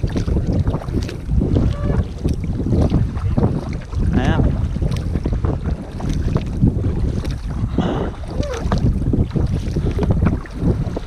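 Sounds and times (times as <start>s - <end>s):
water splashing around kayak: 0.0s - 11.0s
wind buffeting microphone: 0.0s - 11.0s.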